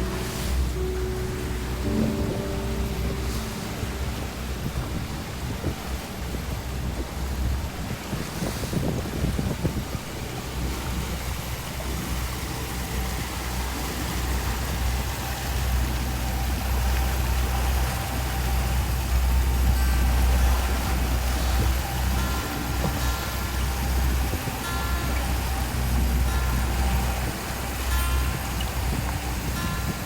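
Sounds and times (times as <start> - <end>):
motorboat engine droning: 0.0 - 30.0
water rushing: 0.0 - 30.0
wind: 0.0 - 30.0.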